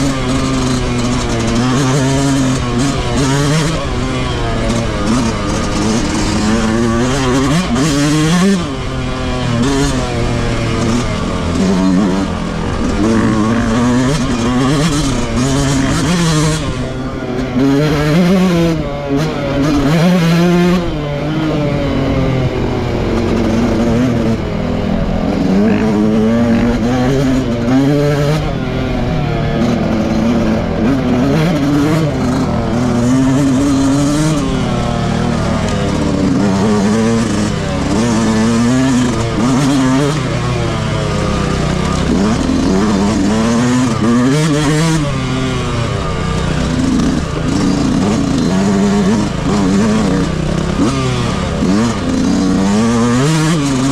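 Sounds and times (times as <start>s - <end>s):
two-stroke motocross engine revving: 0.0s - 53.9s.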